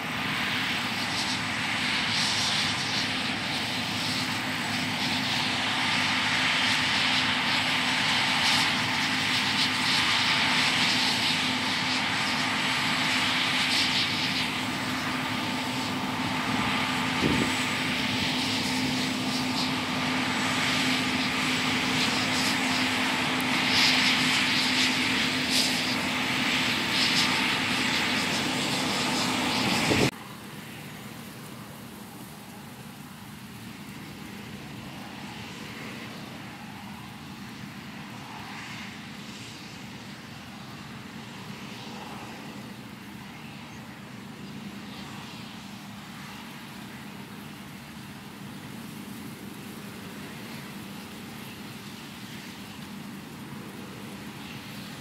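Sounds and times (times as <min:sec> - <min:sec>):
combine engine drone: 0:00.0 - 0:55.0
rushing hiss of threshing: 0:00.0 - 0:55.0.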